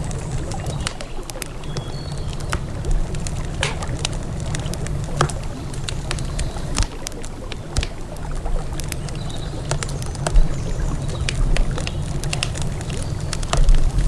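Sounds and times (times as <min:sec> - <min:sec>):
campfire crackling and popping: 0:00.0 - 0:14.0
river flowing: 0:00.0 - 0:14.0.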